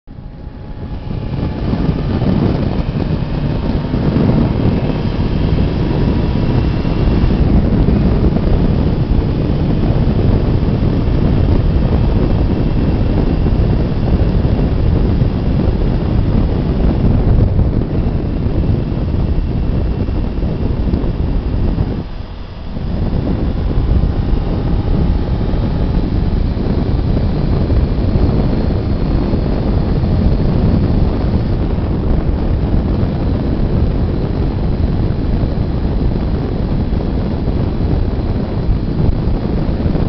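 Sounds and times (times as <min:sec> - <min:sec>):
motorcycle engine accelerating: 0:00.0 - 0:40.0
wind buffeting microphone: 0:00.1 - 0:40.0.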